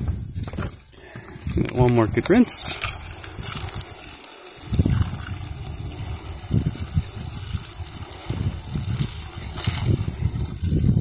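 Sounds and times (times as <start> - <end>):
pressure washer spraying: 1.9 - 11.0.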